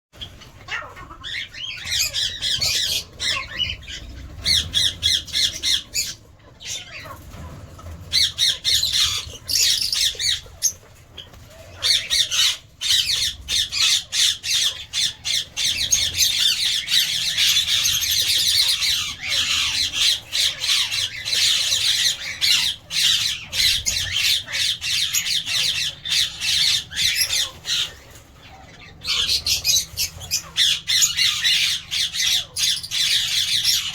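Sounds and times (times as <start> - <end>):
lovebirds chattering and squawking: 0.2 - 33.9.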